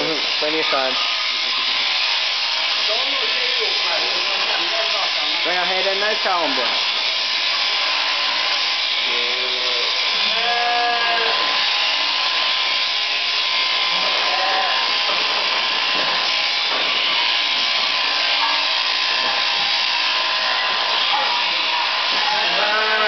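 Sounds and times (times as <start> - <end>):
electric shears buzzing: 0.0 - 23.0.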